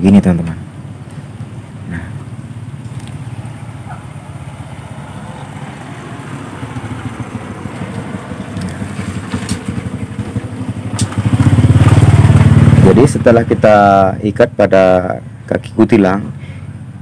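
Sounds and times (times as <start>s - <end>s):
small engine pulsing rumble: 0.0s - 17.0s.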